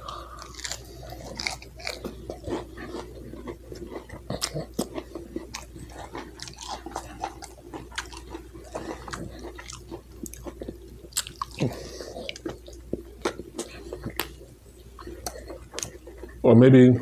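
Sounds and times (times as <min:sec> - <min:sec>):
biting into a burger: 0:00.0 - 0:16.4
wet chewing: 0:00.0 - 0:16.4.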